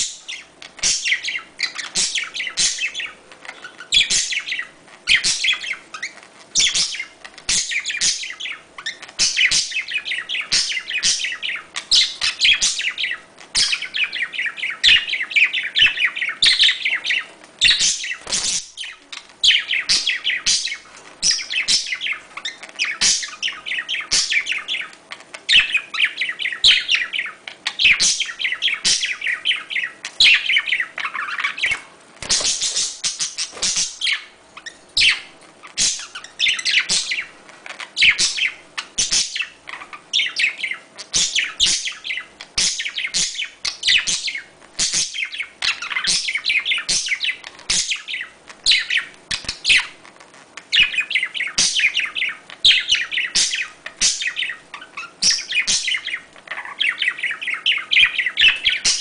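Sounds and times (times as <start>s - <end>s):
budgerigar chirping and chattering: 0.0s - 50.0s, 50.6s - 59.0s.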